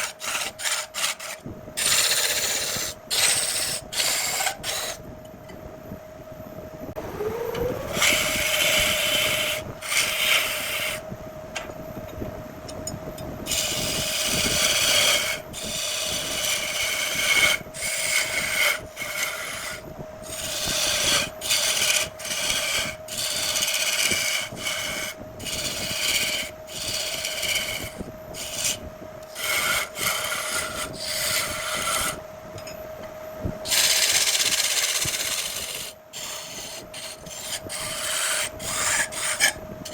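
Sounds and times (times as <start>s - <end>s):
turning tool scraping wood: 0.0s - 5.0s, 7.9s - 11.0s, 13.5s - 32.2s, 33.7s - 39.9s
wood lathe whining: 0.0s - 5.0s, 7.2s - 11.0s, 13.5s - 32.2s, 33.6s - 39.9s.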